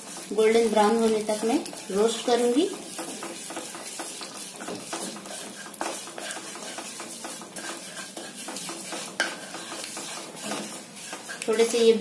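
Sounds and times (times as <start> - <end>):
seeds sizzling in hot oil: 0.0 - 12.0
wooden spatula scraping pan: 0.0 - 12.0.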